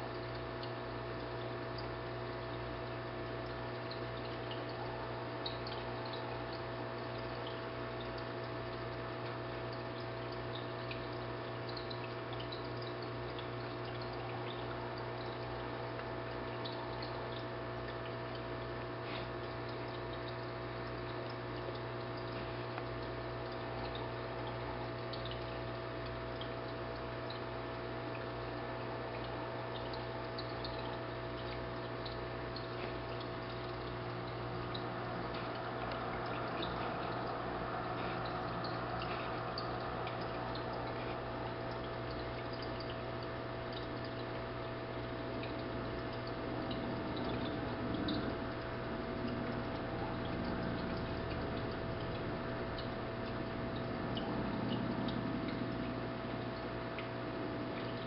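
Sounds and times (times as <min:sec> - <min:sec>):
drips and bubble plinks: 0:00.0 - 0:58.0
water pump motor hum: 0:00.0 - 0:58.0
water trickling: 0:00.0 - 0:58.0.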